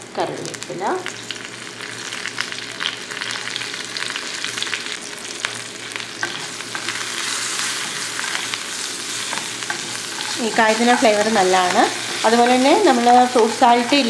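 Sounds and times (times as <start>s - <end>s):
leaves sizzling in hot oil: 0.0s - 14.0s.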